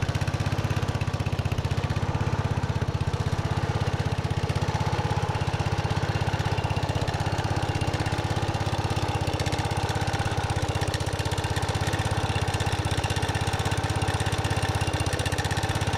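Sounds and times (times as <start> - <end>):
garden tractor engine idling: 0.0 - 15.9.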